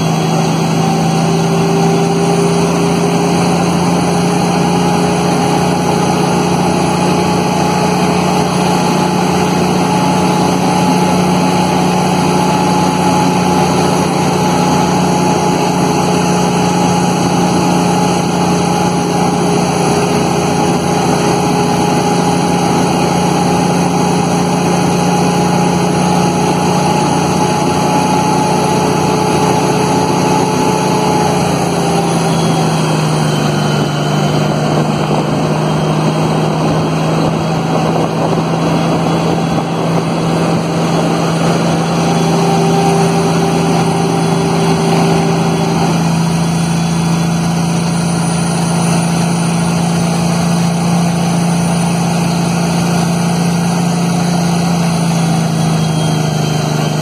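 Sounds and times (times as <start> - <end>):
diesel engine drone from inside cab: 0.0 - 57.0.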